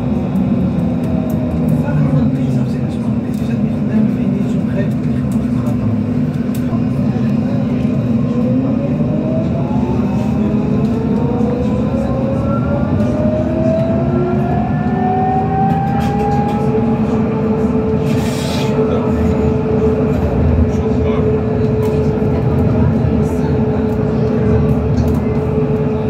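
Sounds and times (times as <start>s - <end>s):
tram motors whining: 0.0s - 26.0s
wheels rumbling on rails: 0.0s - 26.0s.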